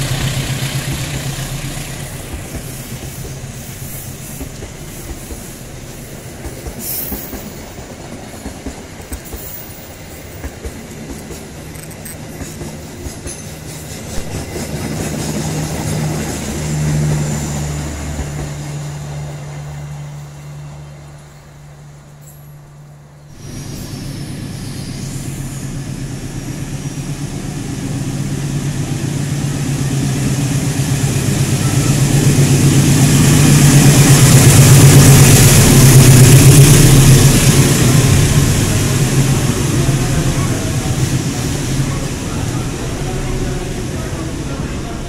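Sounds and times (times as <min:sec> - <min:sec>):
freight train rolling past: 0:00.0 - 0:45.0
passenger train passing: 0:00.0 - 0:45.0
train wheel noise: 0:00.0 - 0:45.0.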